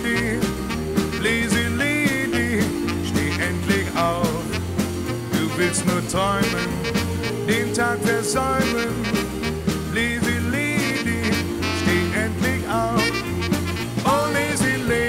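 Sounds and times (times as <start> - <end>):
instrumental rock and roll music: 0.0 - 15.0.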